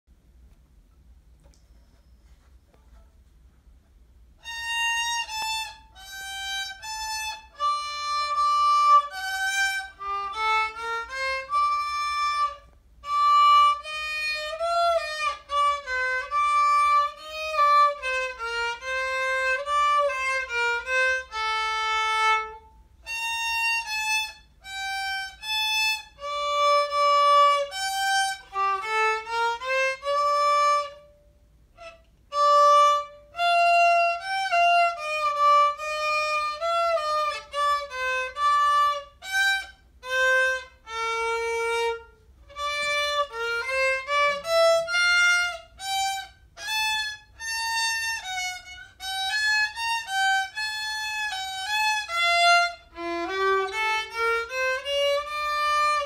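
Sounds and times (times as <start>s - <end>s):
solo violin melody: 4.4s - 56.0s.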